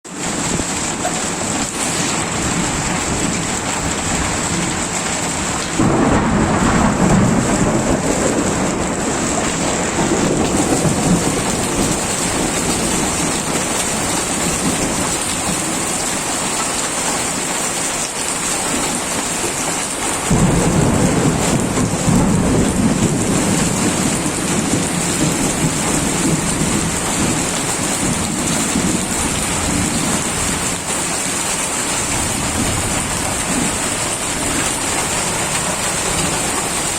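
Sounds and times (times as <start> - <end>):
heavy rain falling: 0.0 - 36.9
thunder rolling: 0.3 - 15.9, 20.2 - 36.9.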